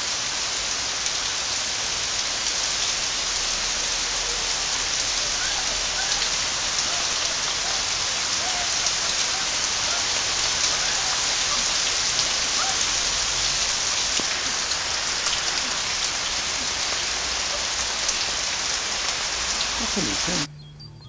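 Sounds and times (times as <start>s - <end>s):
heavy rain falling: 0.0s - 20.5s.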